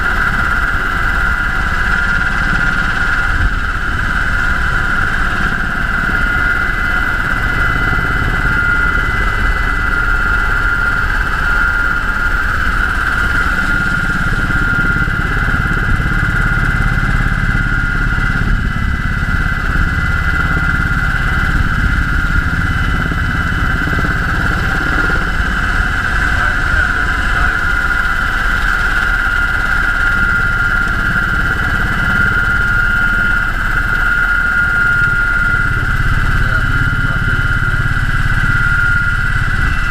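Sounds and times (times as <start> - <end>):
helicopter whine and rumble: 0.0 - 39.9.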